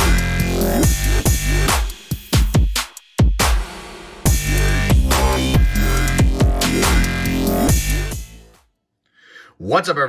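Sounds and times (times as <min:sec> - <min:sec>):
electronic music: 0:00.0 - 0:08.6.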